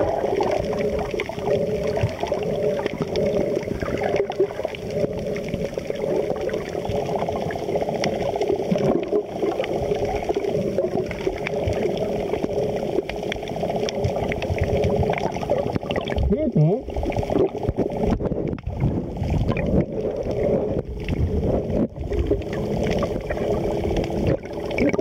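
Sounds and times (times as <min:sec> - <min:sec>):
underwater gurgling rush: 0:00.0 - 0:25.0.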